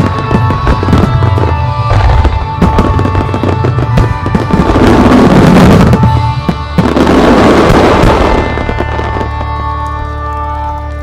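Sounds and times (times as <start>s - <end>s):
fireworks bursting: 0.0s - 11.0s
music: 0.0s - 11.0s.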